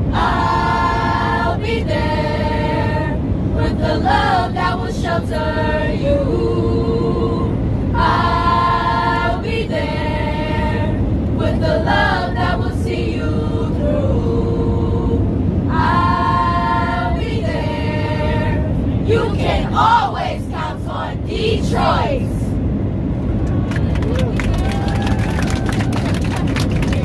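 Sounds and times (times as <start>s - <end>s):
choir singing a cappella: 0.0s - 22.6s
low drone of airliner cabin: 0.0s - 27.0s.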